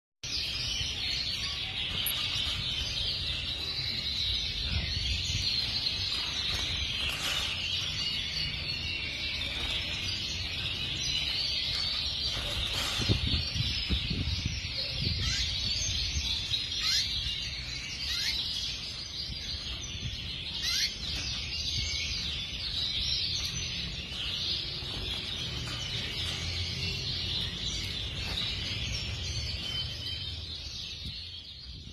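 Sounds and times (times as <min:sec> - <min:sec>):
canaries singing: 0:00.2 - 0:31.9.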